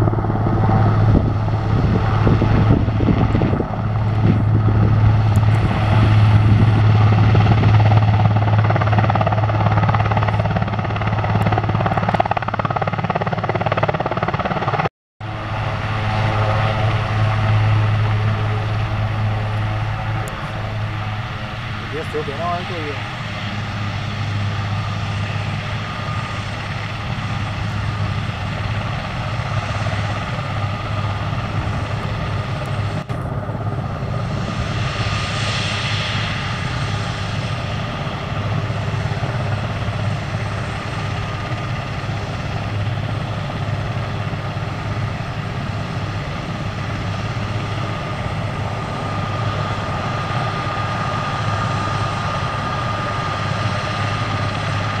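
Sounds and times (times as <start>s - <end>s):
helicopter rotor drone: 0.0s - 55.0s
high turbine engine whine: 0.0s - 55.0s.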